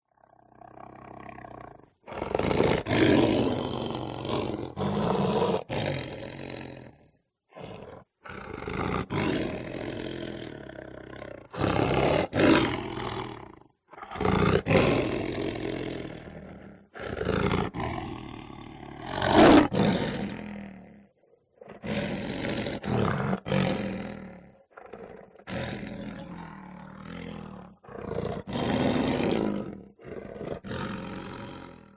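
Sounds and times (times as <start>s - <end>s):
lion growling and roaring: 0.1s - 31.9s.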